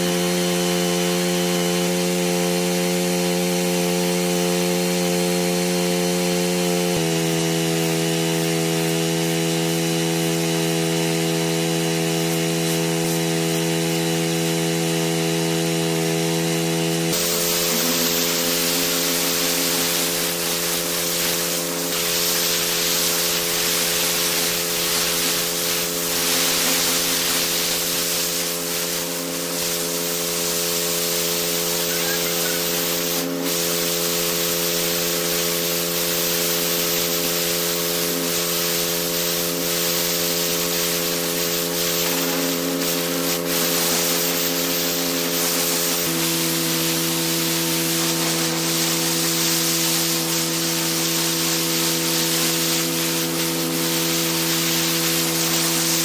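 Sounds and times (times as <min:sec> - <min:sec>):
pressure washer jet hissing: 0:00.0 - 0:56.0.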